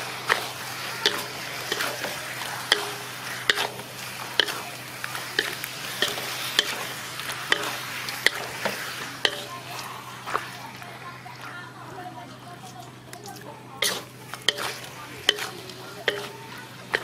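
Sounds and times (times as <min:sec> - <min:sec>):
spatula scraping a metal wok: 0:00.0 - 0:11.1, 0:13.8 - 0:17.0
food sizzling: 0:00.0 - 0:17.0.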